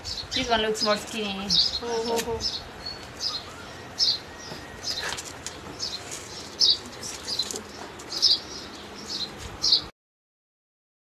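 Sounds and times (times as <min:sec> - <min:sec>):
bird chirping: 0:00.0 - 0:09.9.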